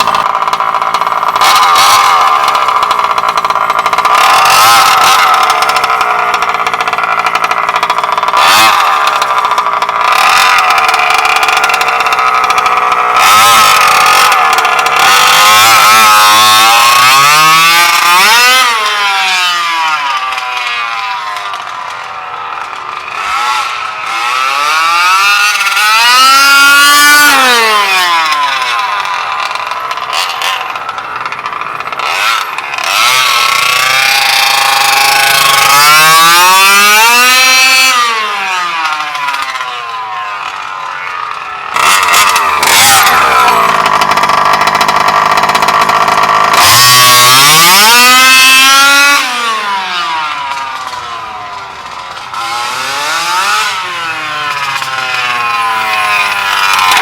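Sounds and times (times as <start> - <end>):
rc truck two-stroke engine revving: 0.0 - 57.0.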